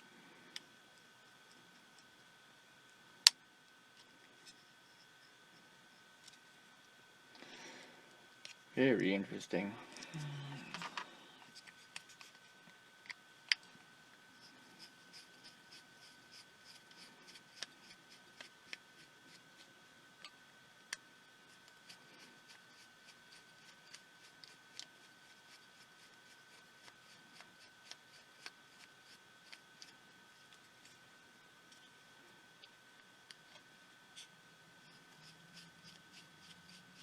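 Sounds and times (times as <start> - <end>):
faint high whine: 0.0 - 37.0.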